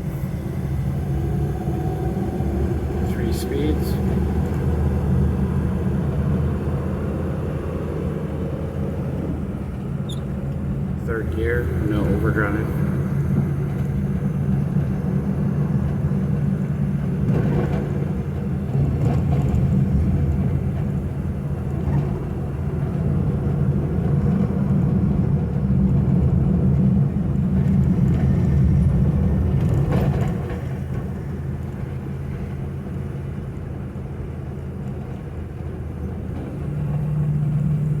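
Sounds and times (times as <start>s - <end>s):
car engine drone: 0.0s - 38.0s.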